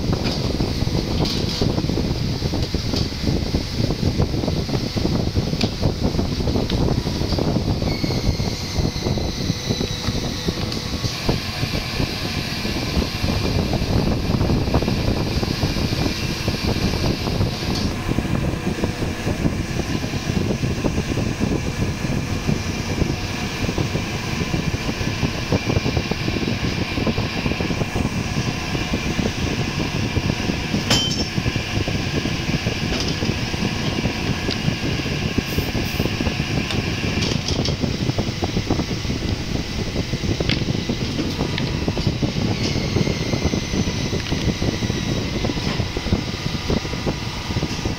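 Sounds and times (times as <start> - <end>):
machinery drone: 0.0 - 47.9.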